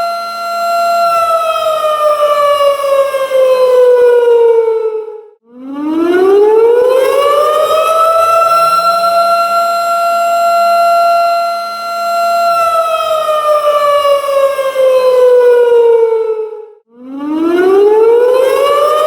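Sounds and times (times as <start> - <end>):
tornado siren wailing: 0.0 - 19.0.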